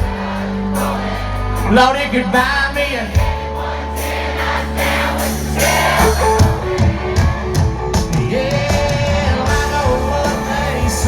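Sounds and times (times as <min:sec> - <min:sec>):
steady drum beat: 0:00.0 - 0:01.8, 0:03.2 - 0:11.0
bass: 0:00.0 - 0:11.0
electric guitar: 0:00.0 - 0:11.0
live country band: 0:00.0 - 0:11.0.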